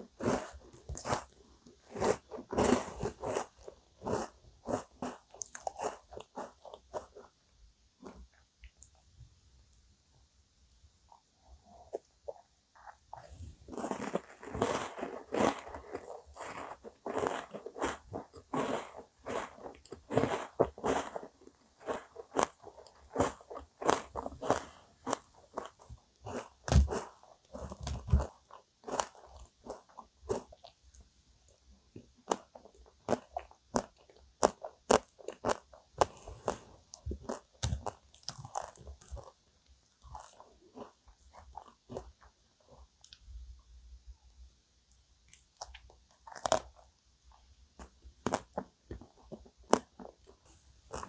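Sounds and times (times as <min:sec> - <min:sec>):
crunchy chewing: 0:00.0 - 0:07.4, 0:11.1 - 0:43.2, 0:45.3 - 0:51.0.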